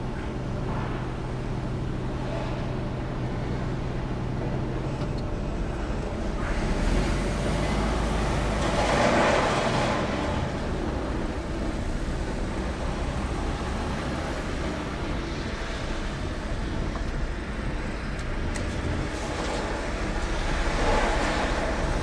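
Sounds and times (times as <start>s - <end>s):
truck diesel engine rumble: 0.0s - 22.0s.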